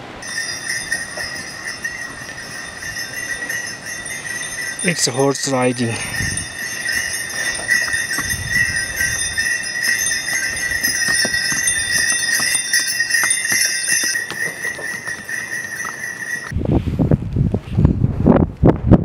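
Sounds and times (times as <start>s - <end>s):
hooves clopping on stone: 0.2s - 16.5s
harness bells jingling: 0.2s - 16.6s.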